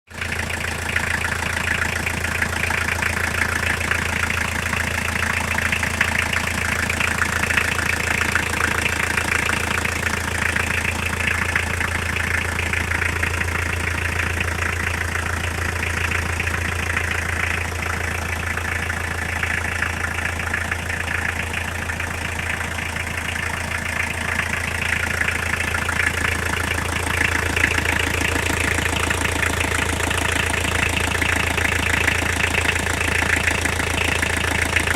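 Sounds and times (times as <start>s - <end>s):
diesel engine idling: 0.1s - 34.9s
rapid even engine knock: 0.1s - 34.9s.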